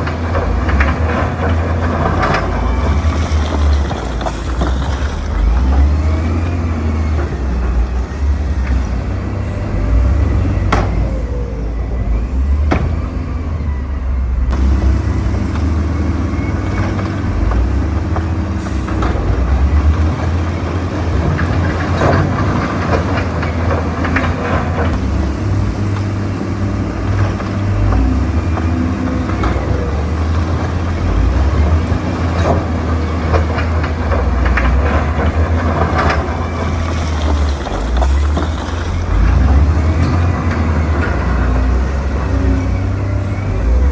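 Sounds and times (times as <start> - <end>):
diesel engine rumbling: 0.0 - 43.9.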